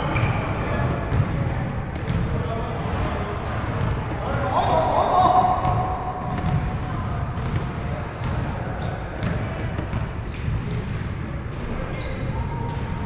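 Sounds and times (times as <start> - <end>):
sneakers squeaking on hardwood: 0.0 - 2.3, 3.4 - 13.0
din of gym hall: 0.0 - 13.0
basketball bouncing: 0.1 - 11.3.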